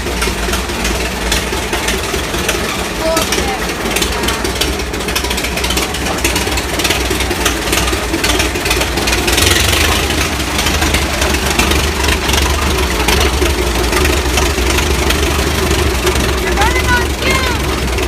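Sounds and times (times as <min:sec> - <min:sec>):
bulldozer engine rumbling: 0:00.0 - 0:18.0.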